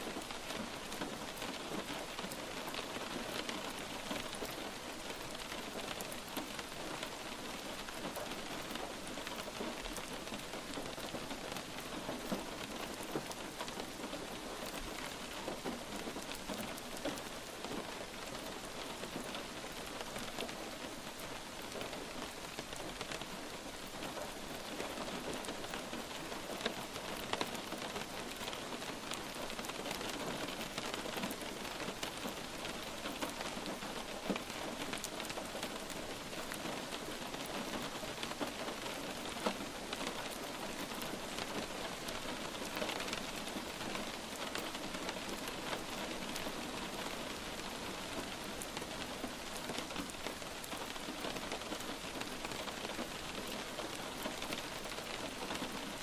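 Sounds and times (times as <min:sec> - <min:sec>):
light rain with drops ticking: 0:00.0 - 0:56.0.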